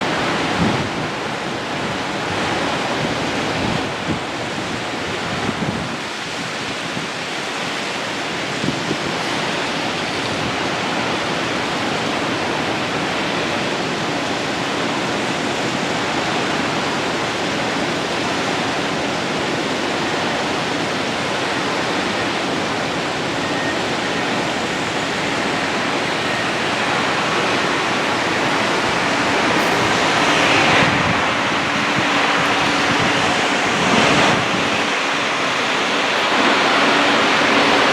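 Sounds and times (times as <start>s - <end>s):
wind rushing on microphone: 0.0s - 37.9s.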